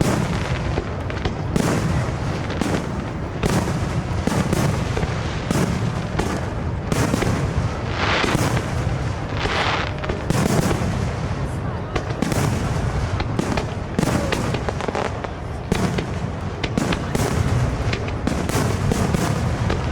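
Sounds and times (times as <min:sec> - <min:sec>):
firework booms: 0:00.0 - 0:19.9
firework crackling hiss: 0:00.0 - 0:19.9.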